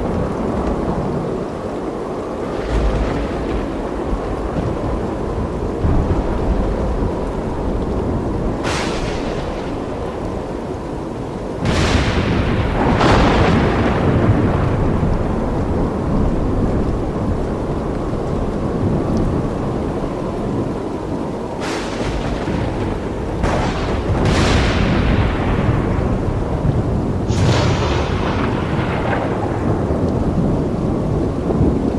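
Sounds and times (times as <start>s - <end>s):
thunder rumbling: 0.0s - 31.9s
sharp thunder cracks: 2.4s - 18.1s, 21.6s - 31.9s.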